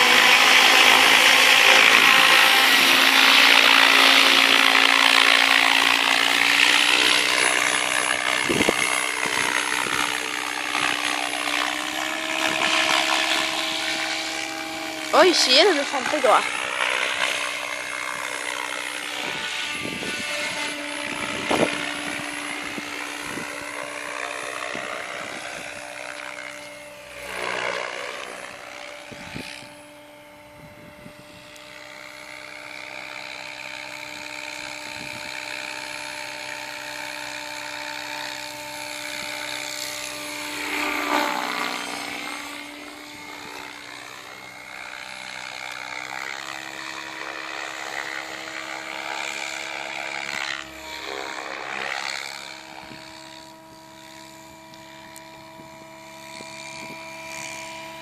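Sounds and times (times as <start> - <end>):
rc helicopter motor whine: 0.0 - 58.0.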